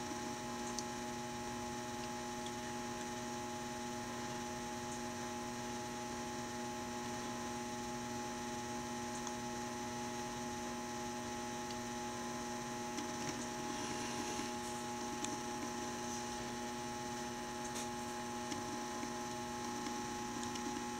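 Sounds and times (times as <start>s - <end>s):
steady electrical hum: 0.0s - 20.9s.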